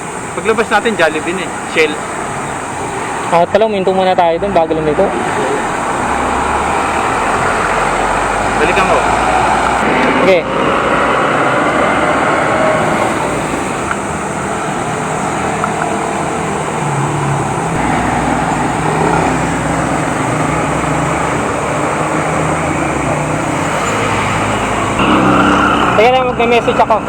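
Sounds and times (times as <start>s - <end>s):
car engine hum: 0.0s - 27.0s
road noise inside car: 0.0s - 27.0s.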